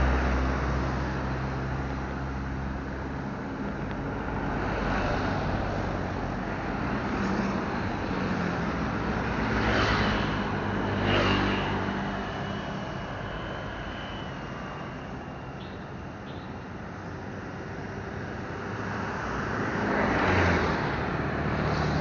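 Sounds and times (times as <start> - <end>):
vehicle engines running: 0.0 - 22.0
vehicles passing close: 0.0 - 22.0.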